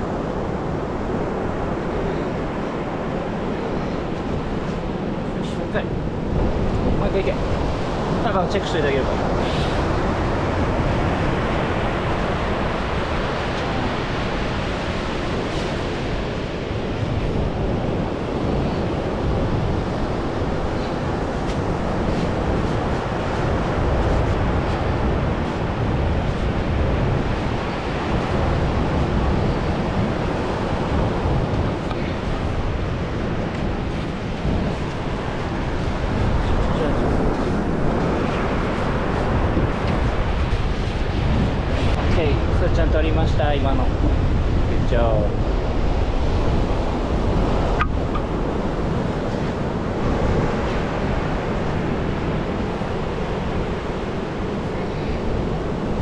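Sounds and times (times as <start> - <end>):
ocean surf: 0.0 - 56.0
wind on microphone: 0.0 - 56.0.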